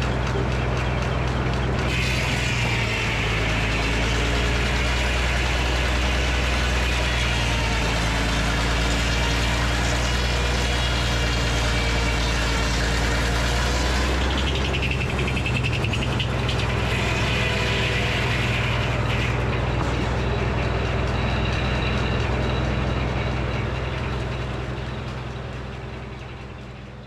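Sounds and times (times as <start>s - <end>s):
circular saw blade whine: 0.0s - 27.0s
sawmill engine drone: 0.0s - 27.0s.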